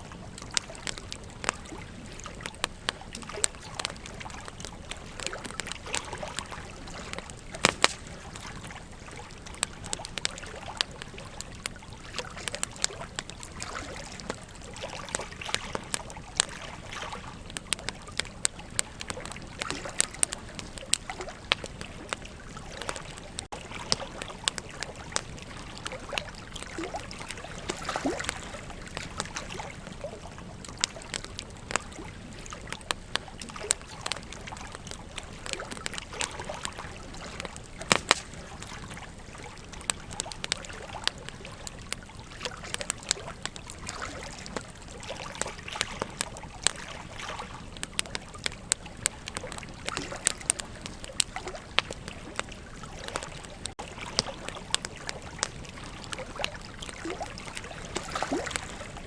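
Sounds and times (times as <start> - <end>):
river water flowing: 0.0 - 48.2, 49.0 - 59.0
campfire crackling and popping: 0.0 - 59.0.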